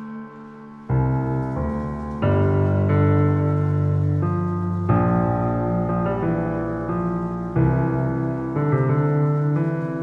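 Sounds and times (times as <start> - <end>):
sustained keyboard chords: 0.0 - 10.0.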